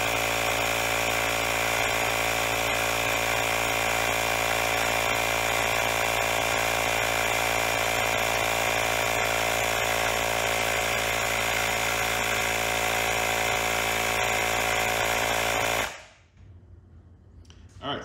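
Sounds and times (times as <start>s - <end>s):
small air compressor running: 0.0s - 16.2s.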